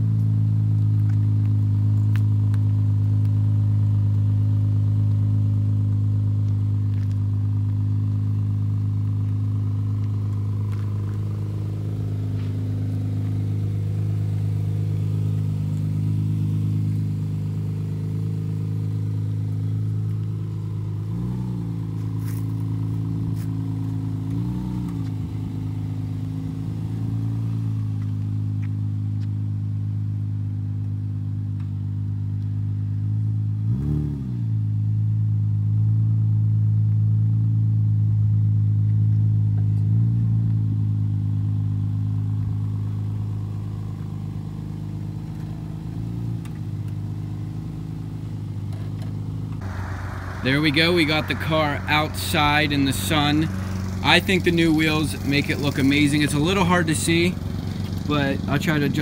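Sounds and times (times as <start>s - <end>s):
car engine idling: 0.0s - 33.6s, 40.5s - 59.0s.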